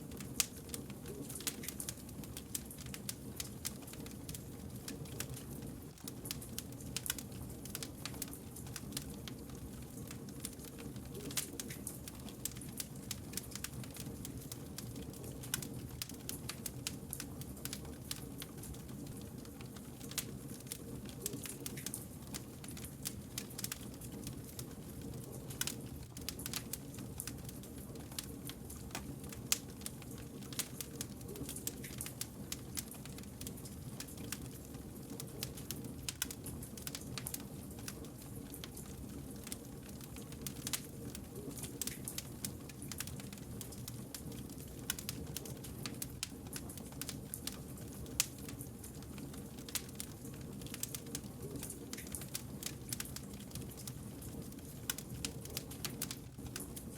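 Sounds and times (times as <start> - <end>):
low rumble of flames: 0.0 - 56.9
campfire crackling and popping: 0.1 - 56.9.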